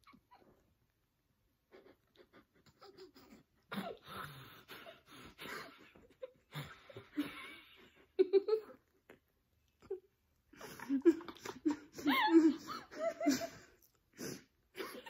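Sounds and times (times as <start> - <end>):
muffled laughter and breathing: 1.7 - 8.9, 9.8 - 15.0.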